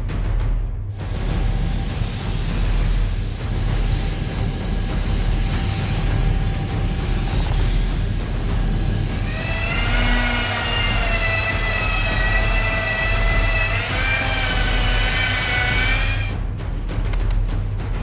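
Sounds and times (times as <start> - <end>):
loud hissing spray: 0.9 - 17.5.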